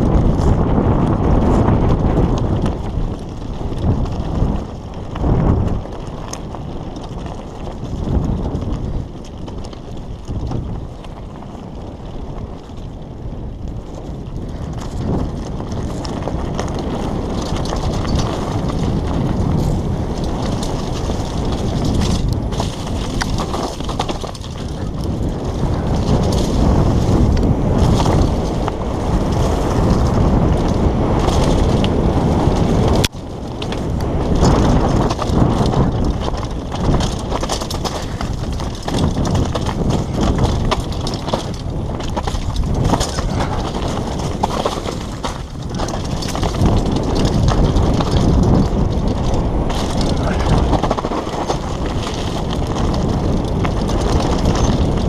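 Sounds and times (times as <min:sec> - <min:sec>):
bike rattling over stones: 0:00.0 - 0:55.0
bike tyre rumble: 0:00.0 - 0:55.0
wind on microphone: 0:00.0 - 0:55.0.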